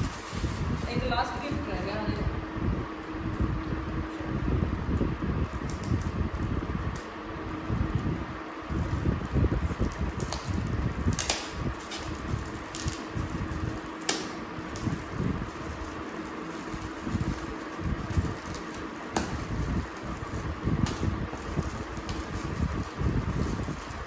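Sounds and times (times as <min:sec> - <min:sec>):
wrapping paper crinkling: 0:00.0 - 0:02.0, 0:02.9 - 0:24.0
fan noise low rumble: 0:00.0 - 0:24.0.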